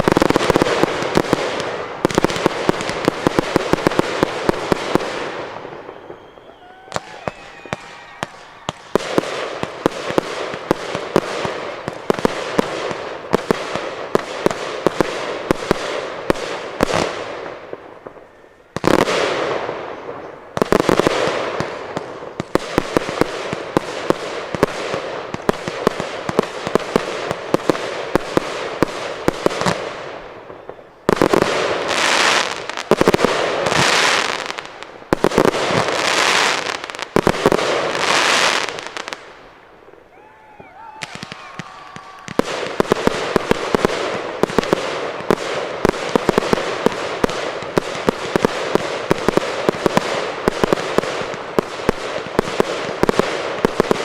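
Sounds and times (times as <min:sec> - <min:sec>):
fireworks crackling and popping: 0:00.0 - 0:54.0
loud firework blasts: 0:00.0 - 0:54.0.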